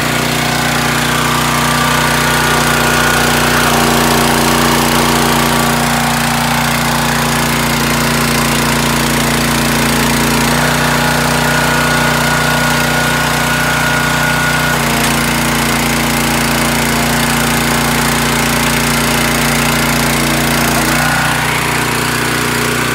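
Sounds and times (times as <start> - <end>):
small gasoline engine running: 0.0 - 22.9.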